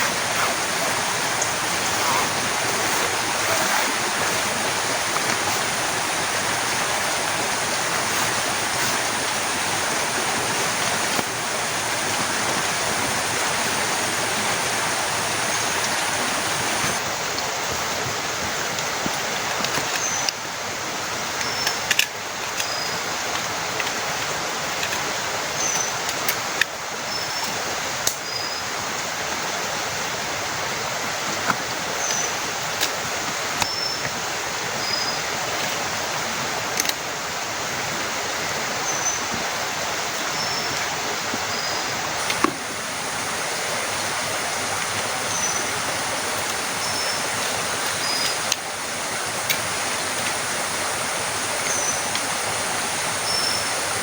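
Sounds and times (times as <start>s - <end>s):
heavy rain falling: 0.0s - 26.8s, 28.7s - 54.0s.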